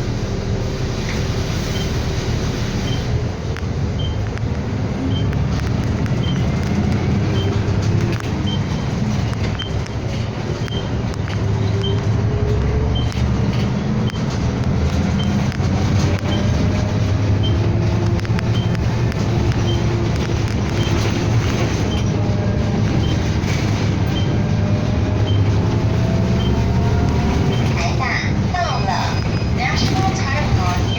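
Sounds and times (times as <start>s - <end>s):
bus engine rumble and road noise: 0.0s - 30.9s.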